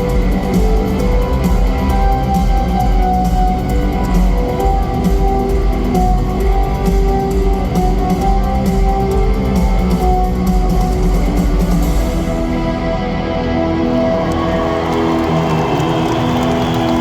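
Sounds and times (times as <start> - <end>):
bass guitar: 0.0 - 17.0
distorted electric guitars: 0.0 - 17.0
drums: 0.0 - 17.0.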